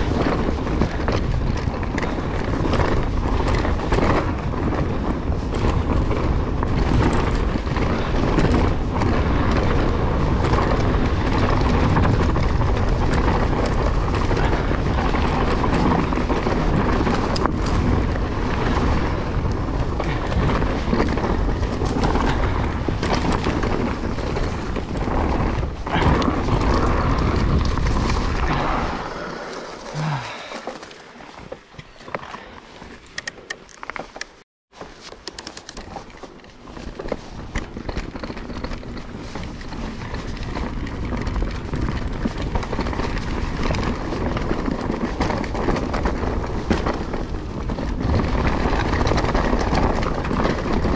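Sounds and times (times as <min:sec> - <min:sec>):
wind on microphone: 0:00.0 - 0:33.3, 0:35.6 - 0:50.9
bike knocking and rattling: 0:00.0 - 0:50.9
bike tyres rumbling on trail: 0:00.0 - 0:50.9.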